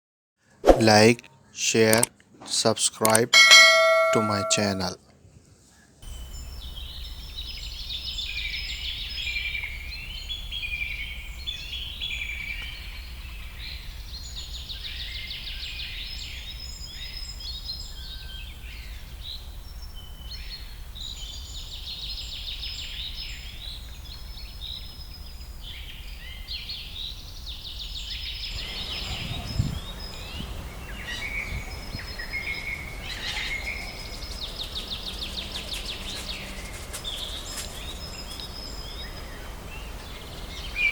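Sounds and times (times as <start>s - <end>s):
small birds singing and chirping: 6.2s - 40.9s.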